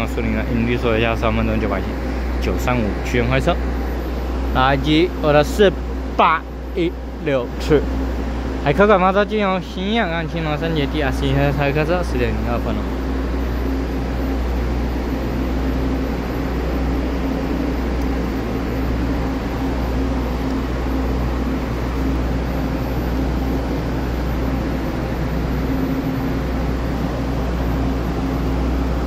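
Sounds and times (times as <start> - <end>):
low hum of trains idling: 0.0 - 29.0.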